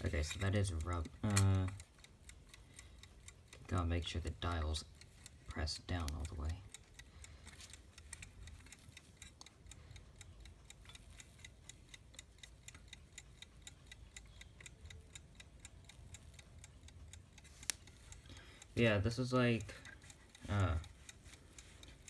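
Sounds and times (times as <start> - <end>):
alarm clock ticking: 0.0 - 22.0.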